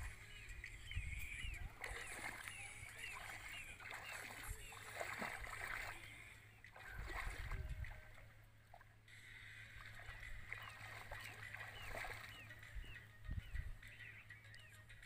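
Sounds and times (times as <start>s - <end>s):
water sloshing around wading legs: 0.0s - 13.0s
birds chirping: 0.0s - 15.0s.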